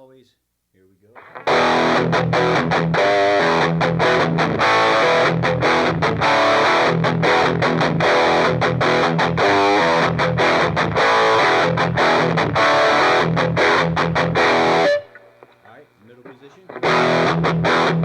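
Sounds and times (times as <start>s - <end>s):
distorted electric guitar riff: 1.2s - 18.0s.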